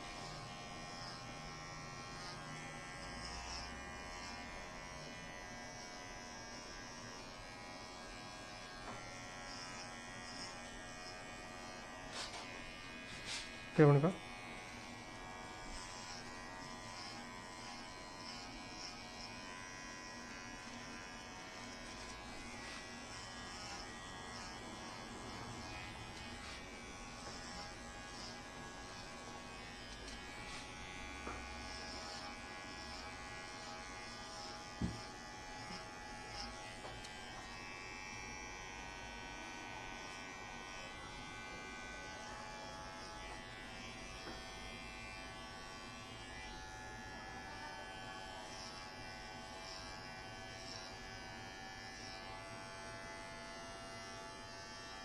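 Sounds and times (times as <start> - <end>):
electric hair clippers buzzing: 0.0 - 55.0.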